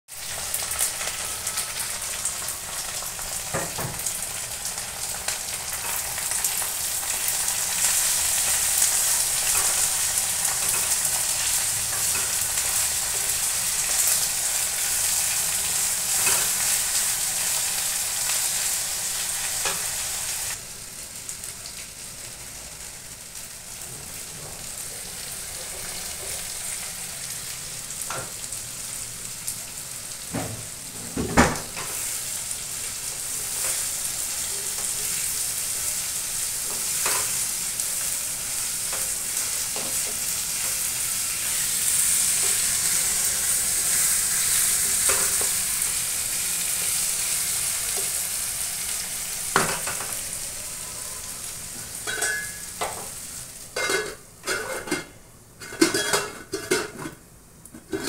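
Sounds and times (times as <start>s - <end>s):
potatoes sizzling in hot oil: 0.1s - 57.9s.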